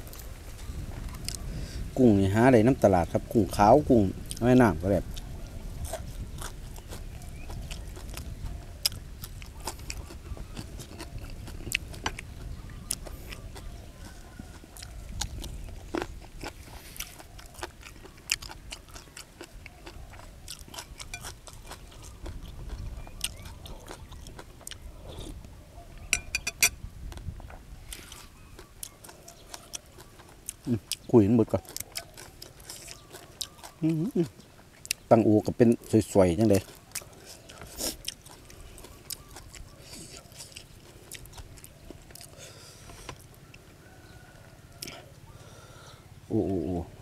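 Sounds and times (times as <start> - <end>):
person chewing and crunching: 1.1 - 1.4, 4.2 - 25.4, 26.1 - 43.6.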